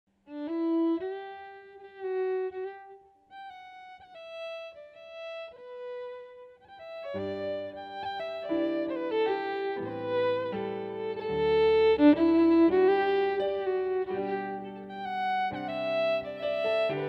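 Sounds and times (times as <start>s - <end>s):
solo fiddle slow melody: 0.2s - 17.0s.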